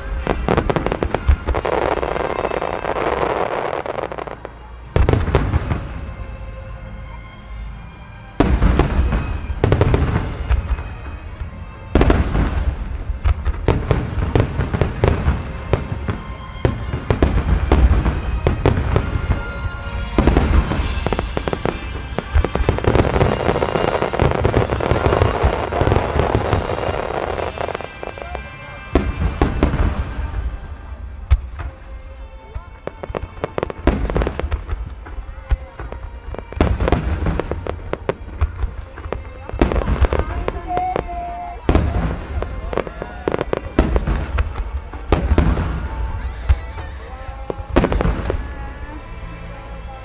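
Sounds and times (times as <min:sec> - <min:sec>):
firework crackling: 0:00.0 - 0:06.7, 0:08.4 - 0:50.0.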